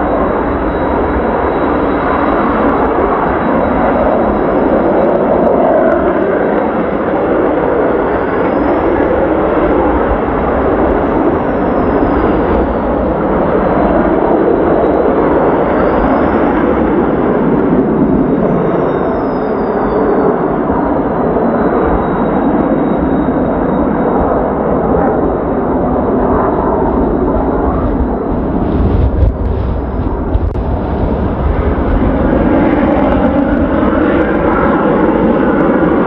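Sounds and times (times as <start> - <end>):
high turbine whine: 0.0 - 36.0
jet aircraft roaring past: 0.0 - 36.0.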